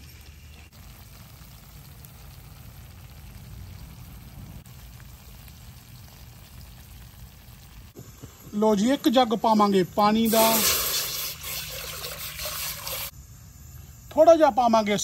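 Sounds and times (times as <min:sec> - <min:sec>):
sauce sizzling in a frying pan: 0:00.0 - 0:13.2.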